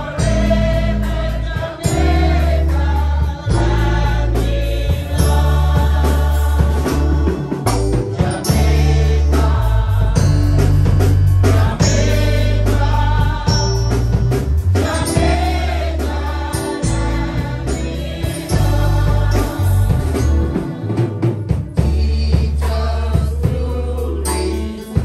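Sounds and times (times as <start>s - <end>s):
congregation singing gospel song: 0.0s - 25.0s
instruments with steady bass line: 0.0s - 25.0s.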